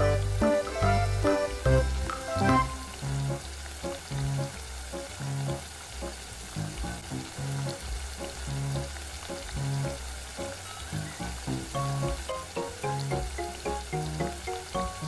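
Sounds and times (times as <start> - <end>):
background music with bass line: 0.0 - 4.6, 6.5 - 10.0, 10.9 - 15.0
crab sizzling in wok: 1.9 - 15.0.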